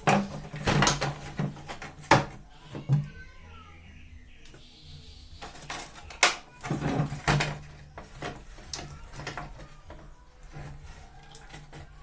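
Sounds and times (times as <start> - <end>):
plastic clicks and knocks: 0.0 - 3.1, 5.5 - 12.0
plastic rattling: 0.0 - 3.3, 5.4 - 12.0.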